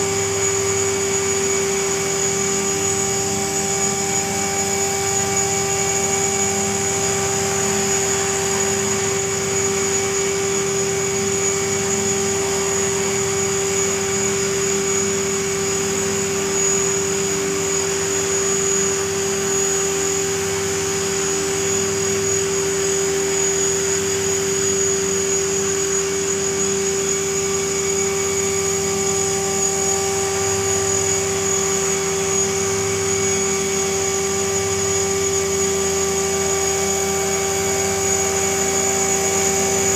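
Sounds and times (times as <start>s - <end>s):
rc helicopter hovering: 0.0s - 39.9s.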